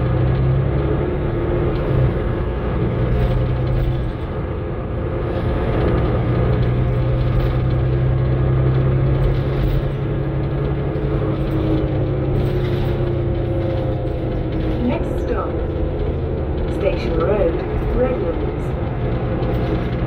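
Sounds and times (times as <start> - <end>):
bus engine drone: 0.0 - 20.0
rattling of bus body: 0.0 - 20.0.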